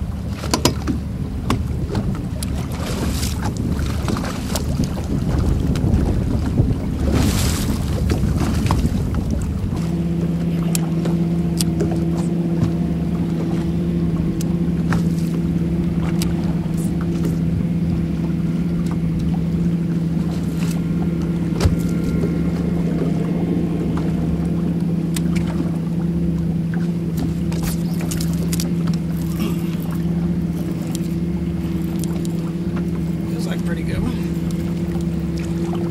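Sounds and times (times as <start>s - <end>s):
boat motor humming: 0.0s - 35.9s
water noise: 0.0s - 35.9s
wind: 0.0s - 35.9s.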